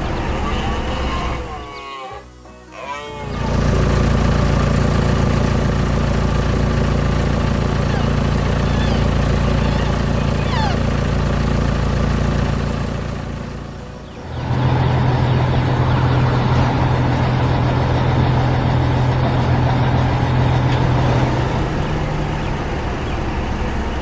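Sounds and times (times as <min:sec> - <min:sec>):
loud steady engine hum: 0:00.0 - 0:01.9, 0:03.0 - 0:24.0
engine running: 0:00.0 - 0:24.0.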